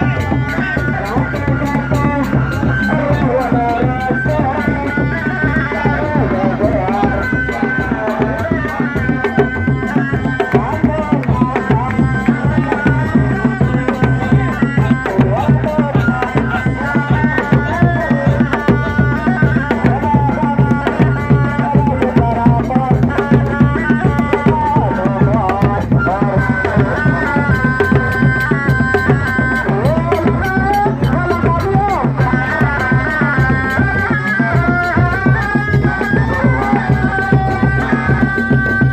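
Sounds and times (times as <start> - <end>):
drums playing driving rhythm: 0.0 - 38.9.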